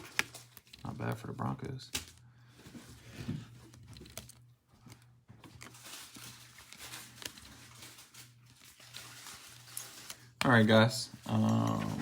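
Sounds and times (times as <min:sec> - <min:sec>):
cards rustling and tapping: 0:00.0 - 0:12.0.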